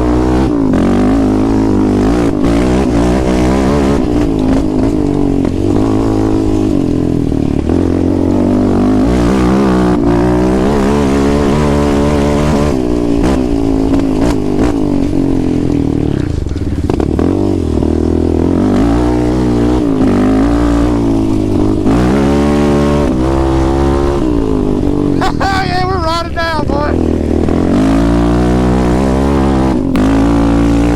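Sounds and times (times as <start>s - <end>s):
atv engine revving: 0.0s - 30.9s.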